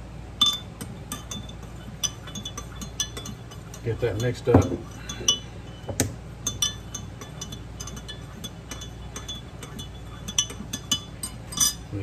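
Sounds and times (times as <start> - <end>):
utensil clinking against cup: 0.4 - 11.9.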